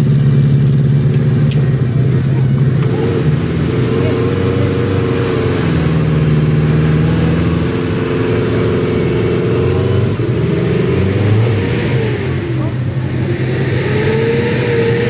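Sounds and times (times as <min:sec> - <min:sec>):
car engine running at raised revs: 0:00.0 - 0:15.0.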